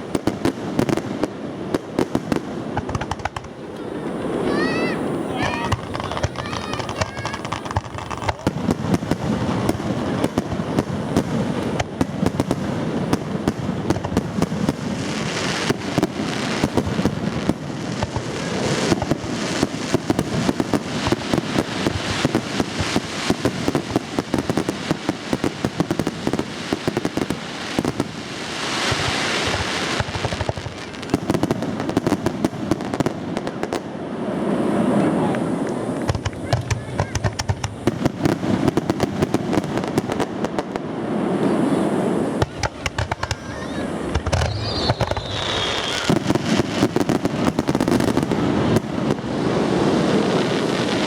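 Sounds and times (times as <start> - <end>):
fireworks popping and crackling: 0.0 - 51.0
hissing crackle of fireworks: 0.0 - 51.0.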